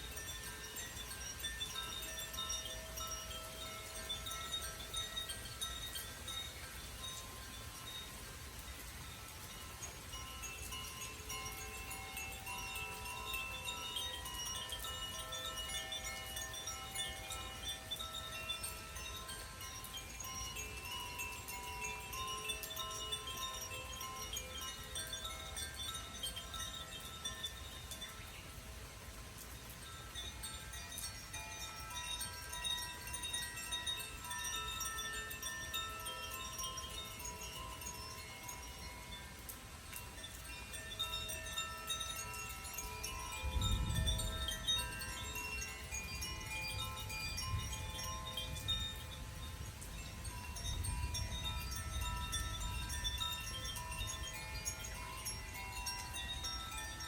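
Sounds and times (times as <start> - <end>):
wind chimes ringing: 0.0 - 57.0.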